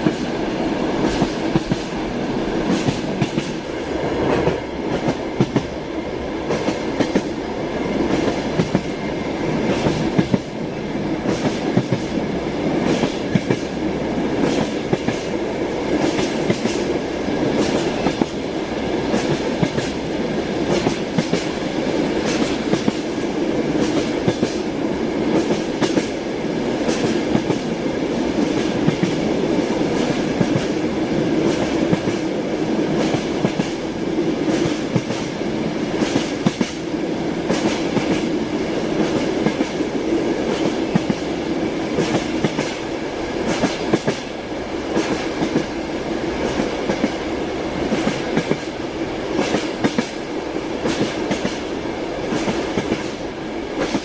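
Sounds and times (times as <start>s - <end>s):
train rumbling inside carriage: 0.0s - 54.0s.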